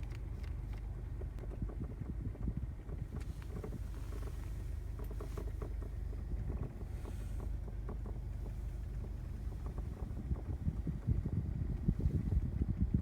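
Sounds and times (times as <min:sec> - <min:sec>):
air conditioner rumble: 0:00.0 - 0:13.0.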